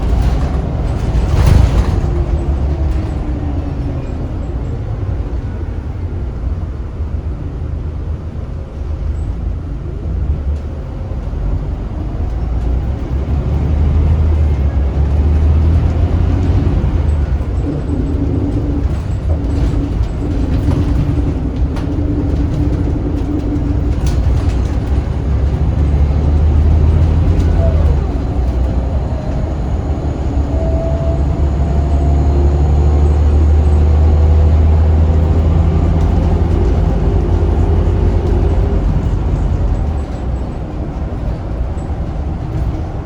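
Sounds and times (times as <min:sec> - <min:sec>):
bus diesel engine running: 0:00.0 - 0:43.0.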